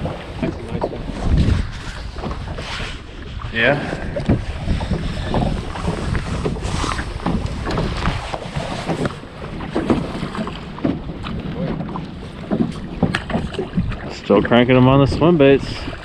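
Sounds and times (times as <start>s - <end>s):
water slapping against hull: 0.0s - 16.0s
wind buffeting microphone: 0.0s - 16.0s.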